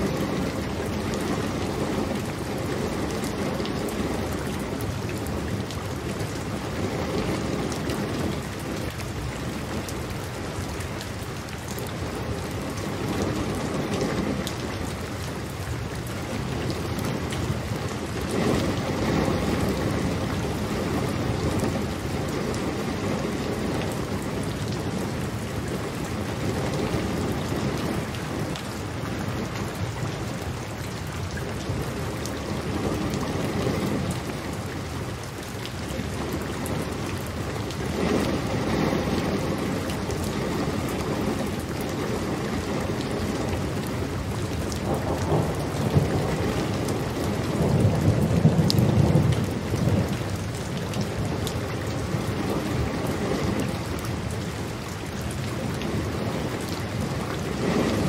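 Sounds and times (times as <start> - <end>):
rolling thunder rumbles: 0.0 - 11.1, 16.2 - 54.4, 55.4 - 58.0
steady rain falling: 0.0 - 58.0.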